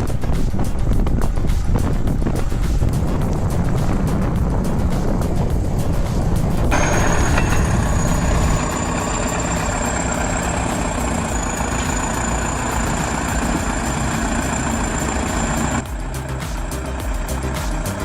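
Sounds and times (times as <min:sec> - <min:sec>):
diesel engine running: 0:01.6 - 0:18.0
high-pitched whine: 0:02.9 - 0:18.0.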